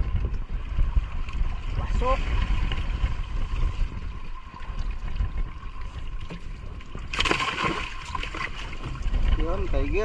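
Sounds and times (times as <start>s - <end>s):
fish and water splashing: 1.1s - 10.0s.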